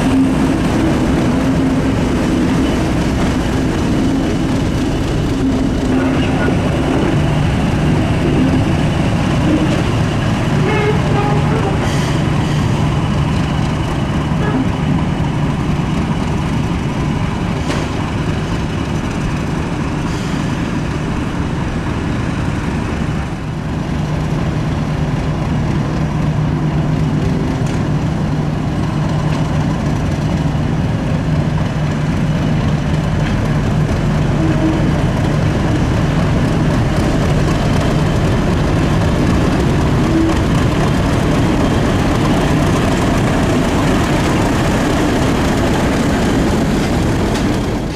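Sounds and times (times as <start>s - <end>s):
diesel locomotive engine humming: 0.0s - 47.9s.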